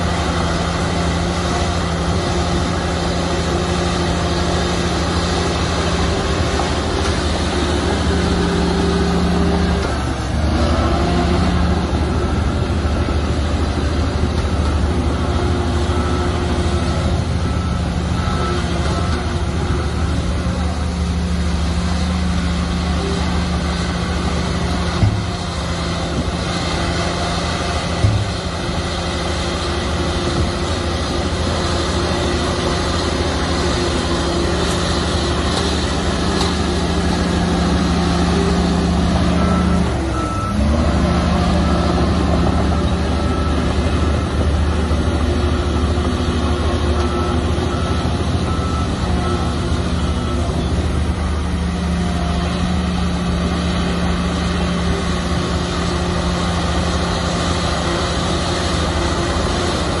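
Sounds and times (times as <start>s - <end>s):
diesel machinery engine running: 0.0s - 60.0s
reversing alarm beeping: 0.1s - 60.0s.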